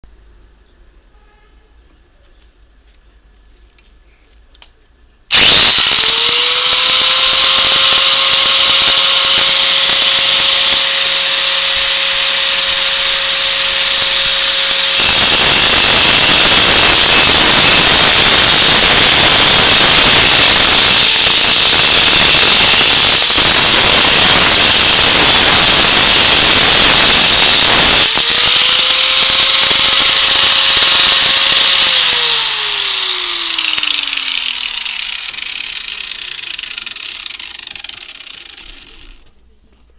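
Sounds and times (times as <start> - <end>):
electric grinder whine: 5.3 - 39.2
grinding disc against metal: 5.3 - 39.3.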